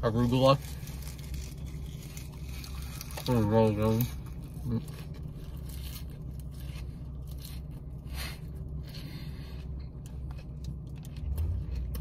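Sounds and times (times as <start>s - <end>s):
chewing leaves crunching: 0.0s - 12.0s
low steady hum: 0.0s - 12.0s.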